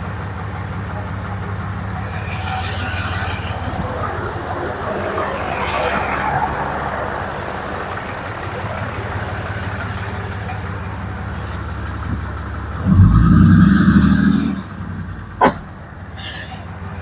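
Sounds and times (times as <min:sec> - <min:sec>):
diesel engine idling and revving: 0:00.0 - 0:17.0.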